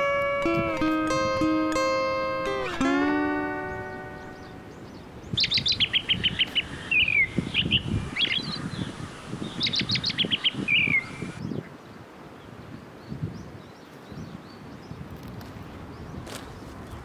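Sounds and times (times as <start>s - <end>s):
songbird chirping: 0.0s - 15.1s
rustle of wind or leaves: 0.0s - 17.0s.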